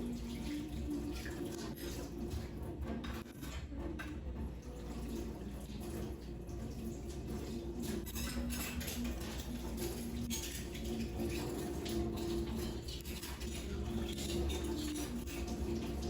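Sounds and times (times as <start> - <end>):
dishes and cutlery clinking: 0.0 - 16.0
water splashing in sink: 0.0 - 16.0.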